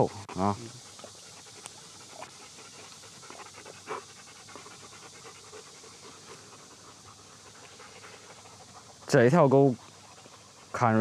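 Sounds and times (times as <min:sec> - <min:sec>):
dogs panting: 0:00.0 - 0:11.0.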